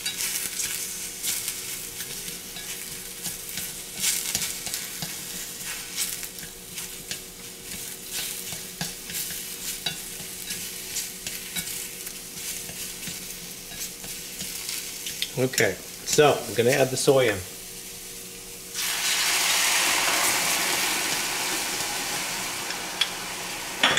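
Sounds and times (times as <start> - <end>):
mushrooms sizzling in hot oil: 0.0 - 23.9.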